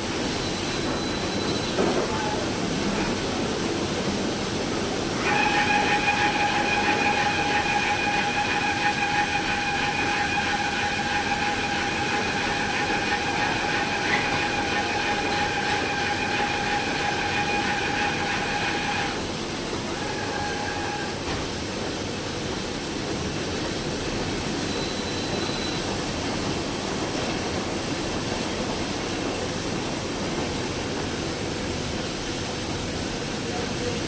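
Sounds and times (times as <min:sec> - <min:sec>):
washing machine rumble: 0:00.0 - 0:34.0.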